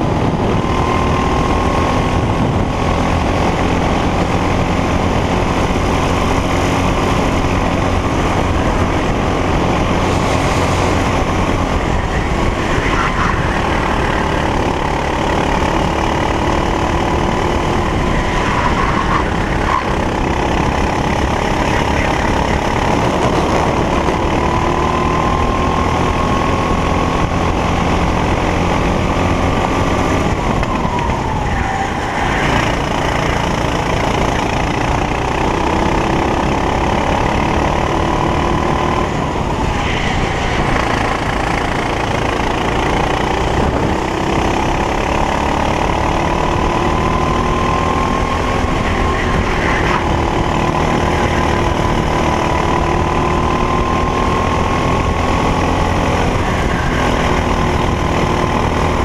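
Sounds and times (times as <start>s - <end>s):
racing kart engine accelerating: 0.0s - 59.0s.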